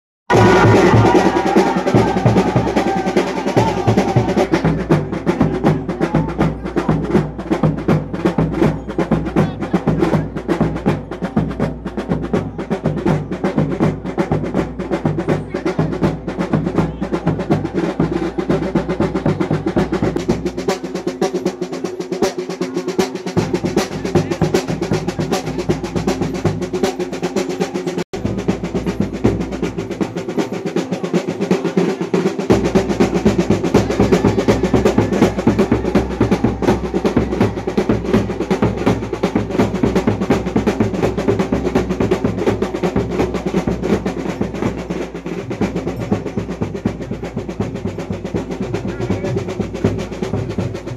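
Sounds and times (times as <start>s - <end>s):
fast percussion ensemble drumming: 0.3s - 50.9s.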